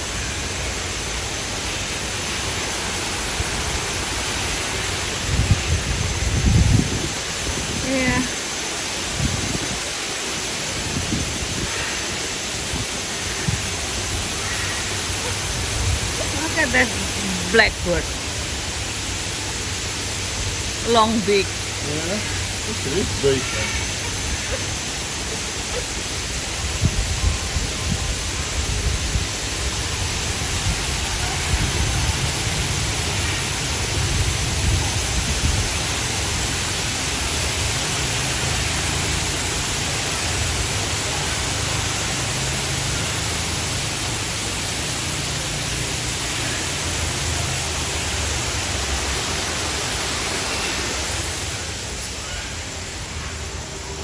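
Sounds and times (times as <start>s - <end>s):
dense rushing noise: 0.0s - 54.0s.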